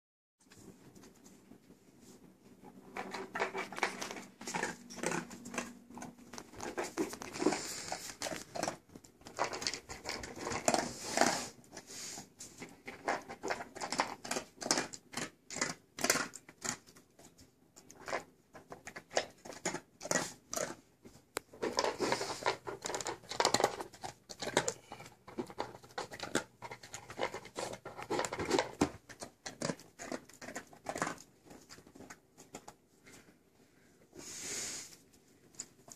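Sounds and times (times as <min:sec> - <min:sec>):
dog crunching dry kibble: 0:02.6 - 0:33.3.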